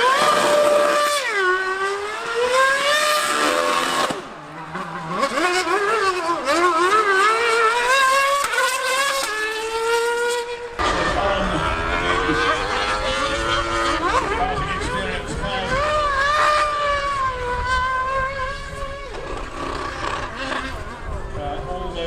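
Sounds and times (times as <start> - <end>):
racing car engine revving: 0.0 - 22.0
superbike engine revving: 0.0 - 22.0.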